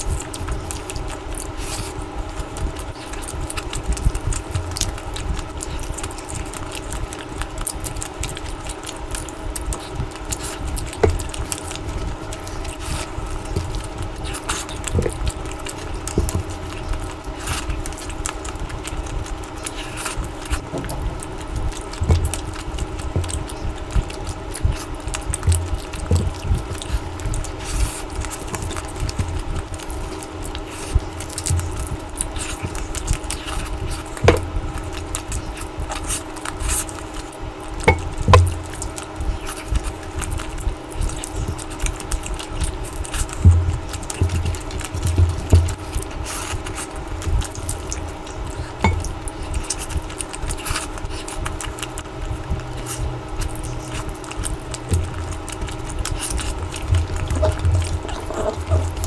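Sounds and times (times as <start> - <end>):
low background hum: 0.0 - 59.0
wet chewing and lip smacks: 0.0 - 59.0.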